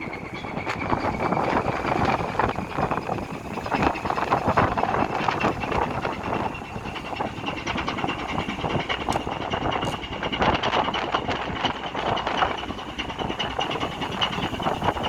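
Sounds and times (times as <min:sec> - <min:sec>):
diesel ship engine knocking: 0:00.0 - 0:15.0
high engine whine: 0:00.0 - 0:15.0
wind buffeting microphone: 0:00.0 - 0:15.0.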